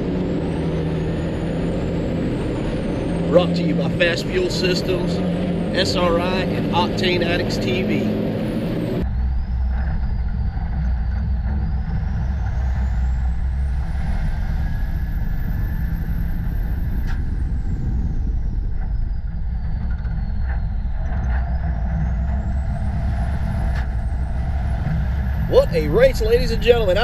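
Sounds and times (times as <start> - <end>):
diesel engine under load: 0.0 - 27.0
high whine: 0.0 - 27.0.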